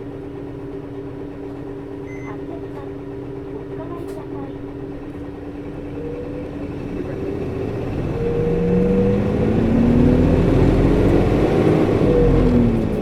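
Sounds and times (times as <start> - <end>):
bus engine accelerating: 0.0 - 13.0.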